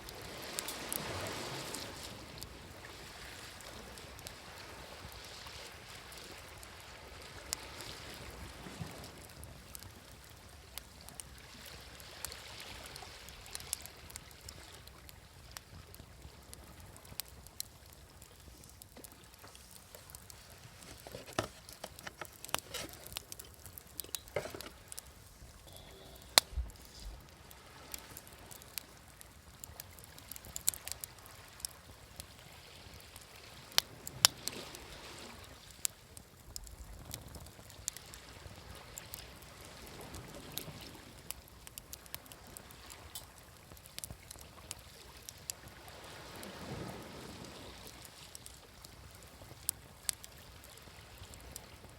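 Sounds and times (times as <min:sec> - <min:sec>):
sea waves: 0:00.0 - 0:15.6, 0:16.3 - 0:51.9
wood fire crackling and popping: 0:00.0 - 0:51.9.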